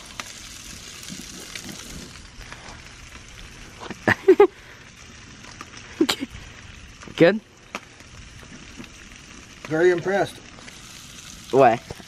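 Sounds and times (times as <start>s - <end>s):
fish sizzling on grill: 0.0s - 12.0s.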